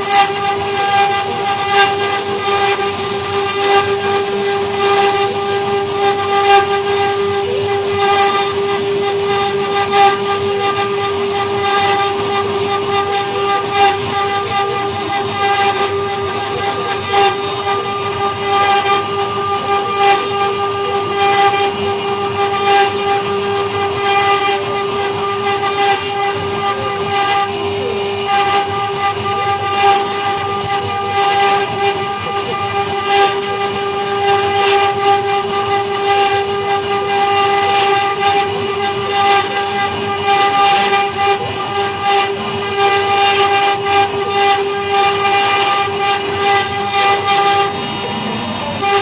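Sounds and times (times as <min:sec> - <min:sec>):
bit scratching wood: 0:00.0 - 0:49.0
router spindle whine: 0:00.0 - 0:49.0.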